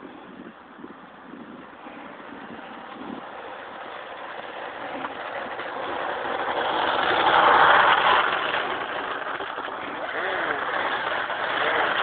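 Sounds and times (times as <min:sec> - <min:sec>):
model plane motor and propeller whirring: 0:00.0 - 0:12.0.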